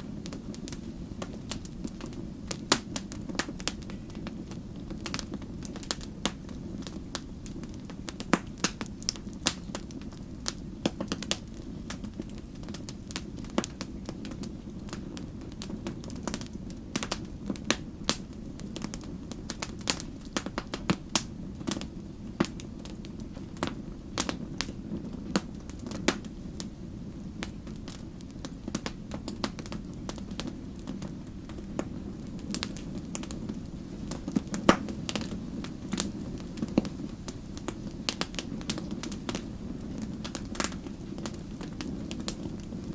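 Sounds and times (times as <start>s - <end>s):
campfire crackling and popping: 0.0s - 42.9s
low rumble of flames: 0.0s - 42.9s.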